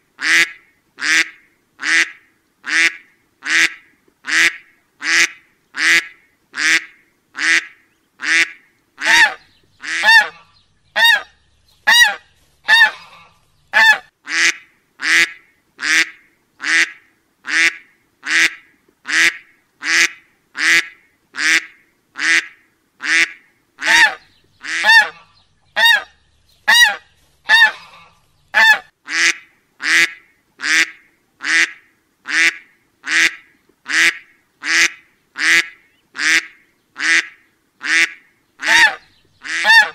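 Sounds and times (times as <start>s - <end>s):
duck quacking: 0.2s - 11.3s, 11.9s - 26.1s, 26.7s - 39.9s.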